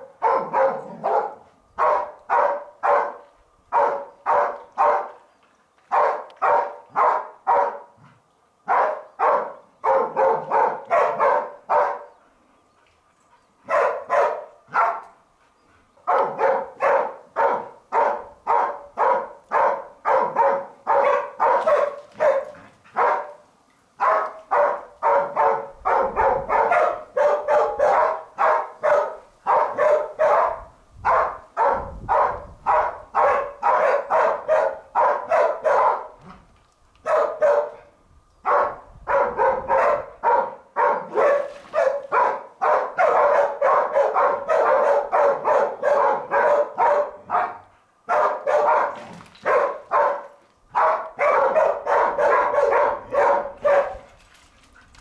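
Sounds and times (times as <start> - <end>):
dog barking rapidly: 0.0 - 5.2, 5.9 - 8.0, 8.7 - 12.2, 13.6 - 15.1, 16.0 - 23.4, 24.0 - 36.3, 37.0 - 37.9, 38.5 - 54.1.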